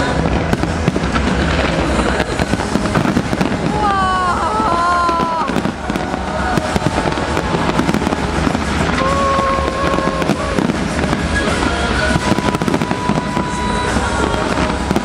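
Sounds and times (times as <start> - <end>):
firework bangs and crackling: 0.0 - 15.0
music playing: 0.0 - 15.0.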